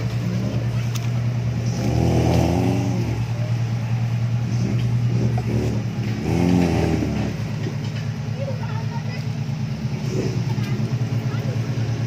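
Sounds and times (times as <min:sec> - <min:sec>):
buggy engine idling and revving: 0:00.0 - 0:12.0.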